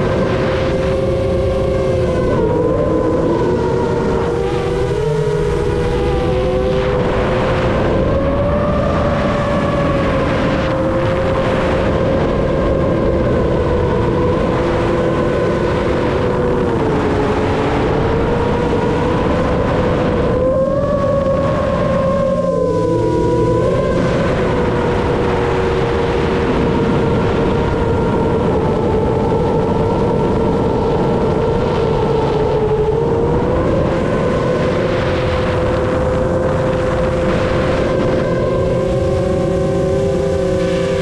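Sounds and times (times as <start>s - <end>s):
quadcopter motors whining: 0.0s - 41.0s.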